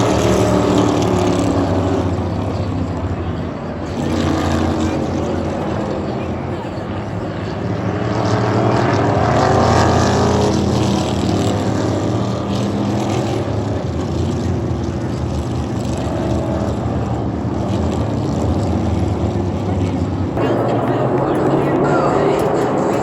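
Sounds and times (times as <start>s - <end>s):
drone of race car engines: 0.0s - 23.0s
race cars passing: 0.0s - 23.0s.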